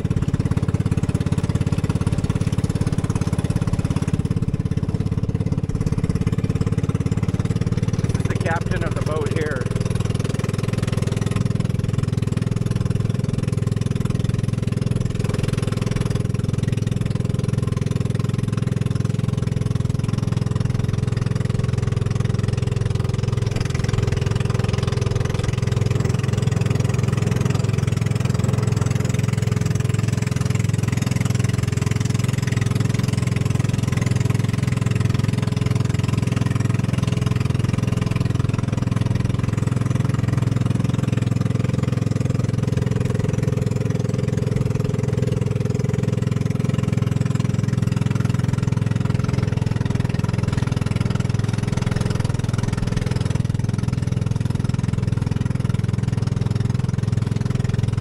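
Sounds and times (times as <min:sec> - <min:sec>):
small boat motor running: 0:00.0 - 0:58.0
water rushing past hull: 0:00.0 - 0:58.0.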